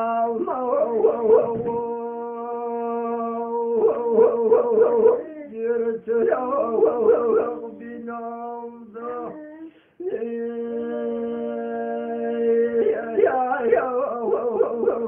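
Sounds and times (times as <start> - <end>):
man singing melismatic phrases: 0.0 - 15.0.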